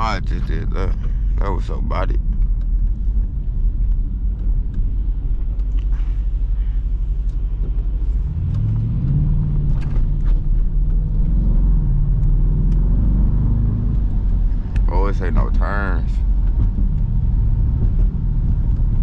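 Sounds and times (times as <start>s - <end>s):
car exhaust rumble: 0.0s - 19.0s.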